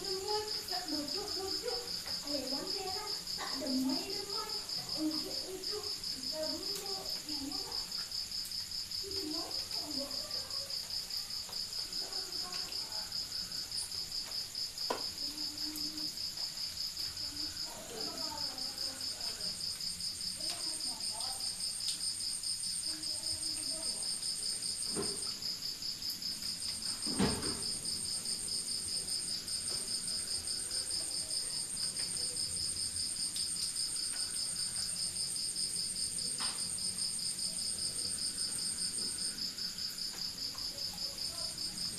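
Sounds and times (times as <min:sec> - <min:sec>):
crickets chirping: 0:00.0 - 0:41.9
higher-pitched insect trill: 0:00.0 - 0:41.9.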